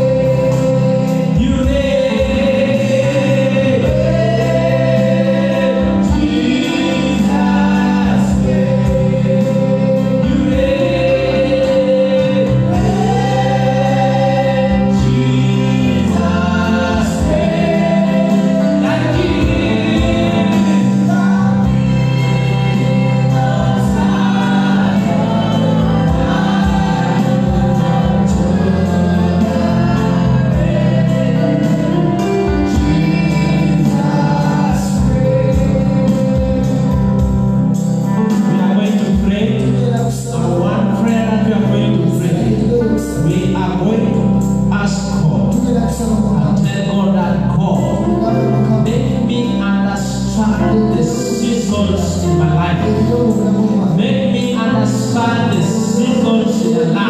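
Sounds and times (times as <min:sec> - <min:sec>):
band accompaniment: 0:00.0 - 0:57.0
group singing gospel song: 0:00.0 - 0:57.0.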